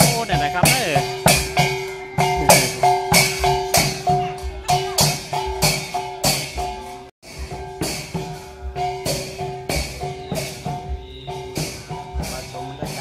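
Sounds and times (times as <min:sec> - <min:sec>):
drum beating: 0:00.0 - 0:13.0
gongs ringing: 0:00.0 - 0:13.0.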